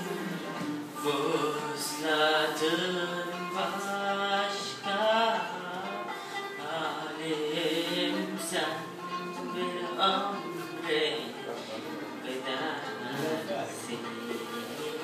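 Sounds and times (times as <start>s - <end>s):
boy singing into a microphone: 0.7s - 11.4s, 12.0s - 15.0s.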